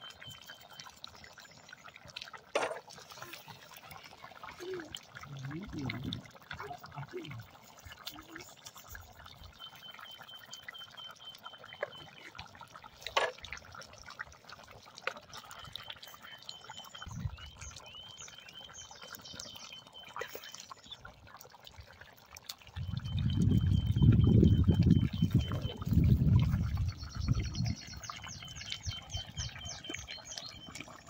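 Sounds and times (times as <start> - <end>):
stew bubbling and popping: 0.0 - 31.0.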